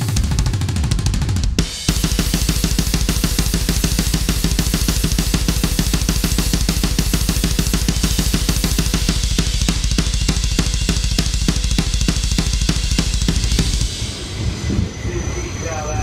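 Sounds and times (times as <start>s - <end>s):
heavy metal drumming: 0.0s - 15.0s.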